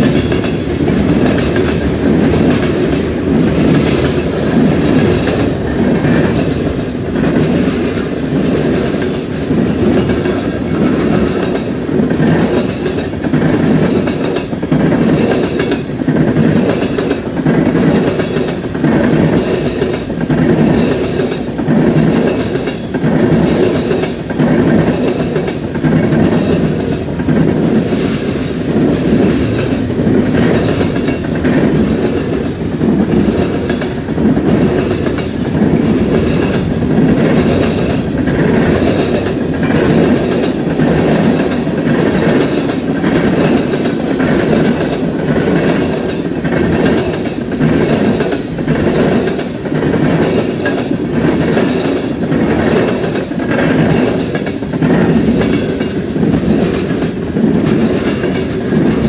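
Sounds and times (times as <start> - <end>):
wheels clacking over track: 0.0 - 59.0.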